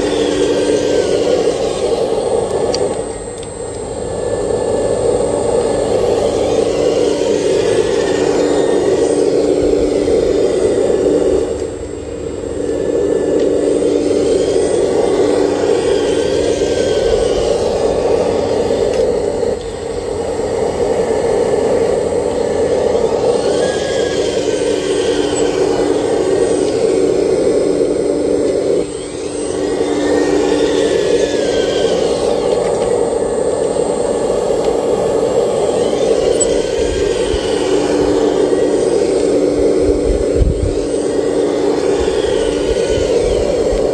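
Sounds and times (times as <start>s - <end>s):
model excavator motors whining: 0.0s - 43.9s.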